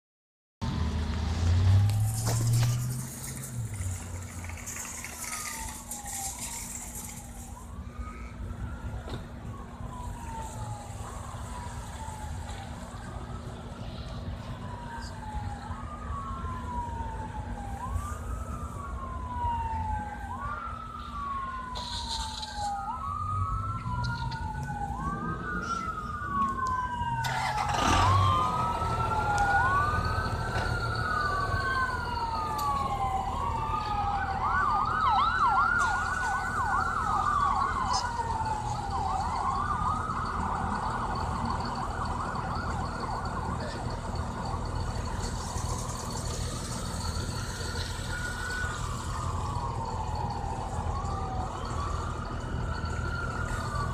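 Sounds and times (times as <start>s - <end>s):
siren wailing: 1.5s - 53.9s.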